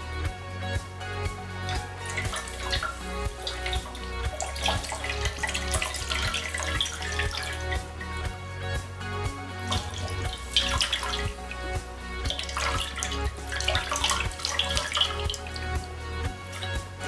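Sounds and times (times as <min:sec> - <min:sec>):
background music with steady beat: 0:00.0 - 0:17.0
tap water splashing on leather glove: 0:01.6 - 0:07.9, 0:09.6 - 0:17.0.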